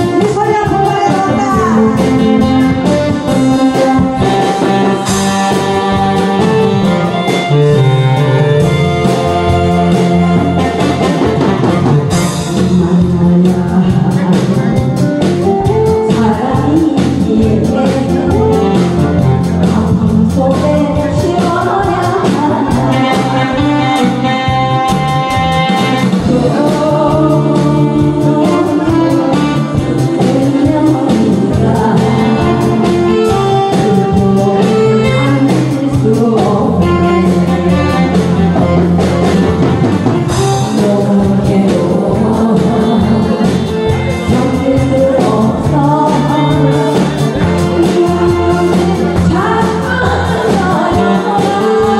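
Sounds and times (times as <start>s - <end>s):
woman singing into microphone: 0.0s - 25.0s, 25.6s - 51.9s
karaoke backing track: 0.0s - 51.9s.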